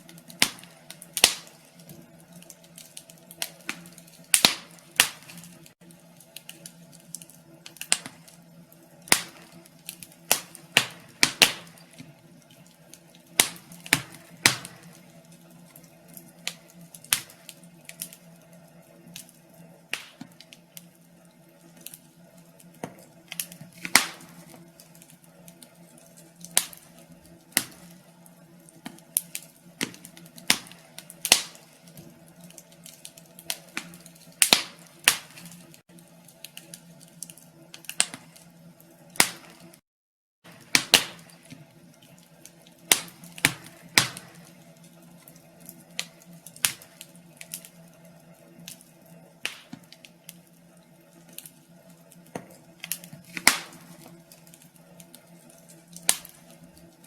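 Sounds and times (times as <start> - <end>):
wood fire crackling: 0.0 - 39.8, 40.4 - 57.0.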